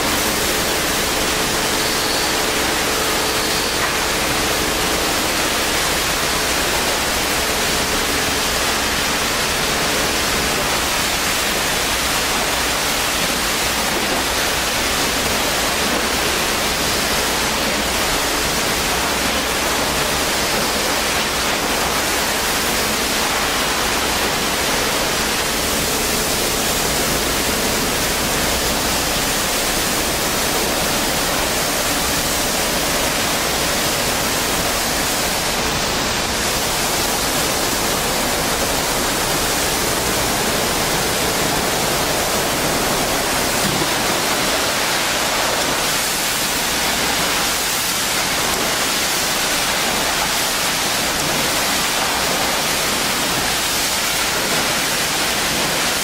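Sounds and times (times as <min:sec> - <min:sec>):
high-pressure water spraying: 0:00.0 - 0:56.0.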